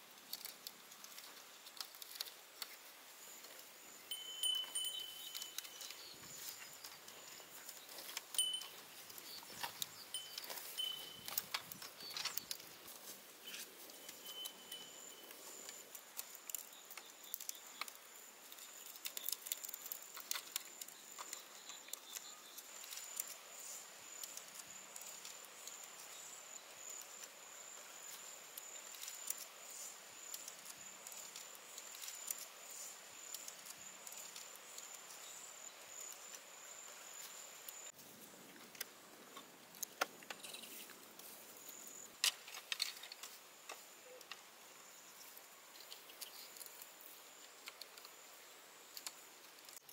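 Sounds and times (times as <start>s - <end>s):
bamboo poles clicking and tapping: 0.1s - 26.3s, 28.0s - 35.4s, 38.6s - 41.3s, 42.2s - 44.5s, 45.8s - 49.9s.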